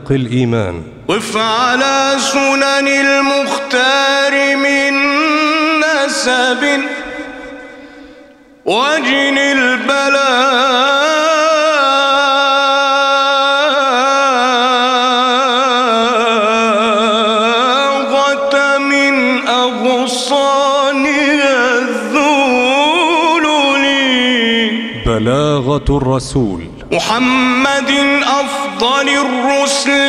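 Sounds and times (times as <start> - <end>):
man chanting: 0.0 - 30.0.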